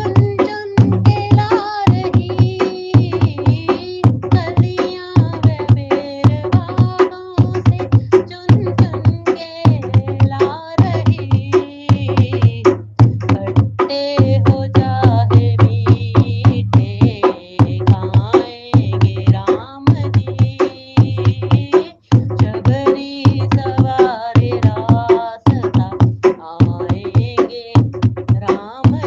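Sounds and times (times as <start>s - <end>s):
person singing devotional song: 0.0s - 29.0s
quick steady drum beat: 0.0s - 29.0s.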